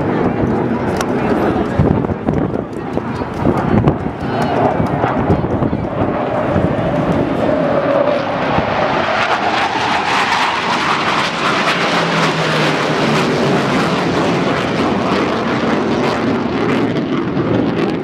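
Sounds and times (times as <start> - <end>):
jet engines passing overhead: 0.0 - 18.0.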